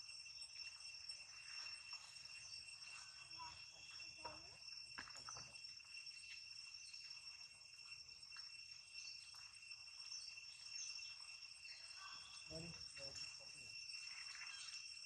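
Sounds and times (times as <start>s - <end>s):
faint insect chirps: 0.0s - 15.0s
high-pitched insect drone: 0.0s - 15.0s.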